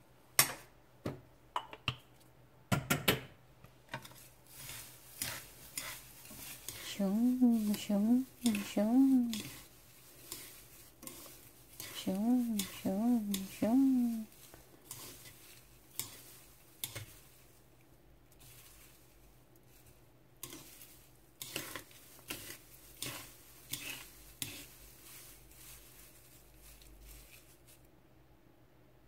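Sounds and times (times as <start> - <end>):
chopsticks tapping and scraping a pan: 2.8 - 27.8.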